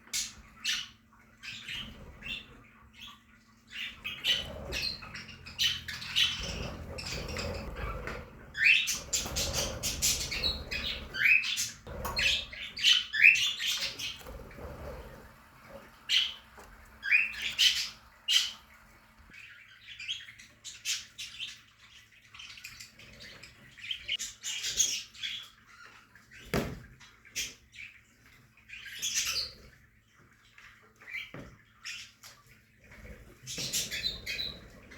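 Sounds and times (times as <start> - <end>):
budgerigars chirping and chattering: 0.1 - 26.6, 27.2 - 29.8, 33.0 - 34.9.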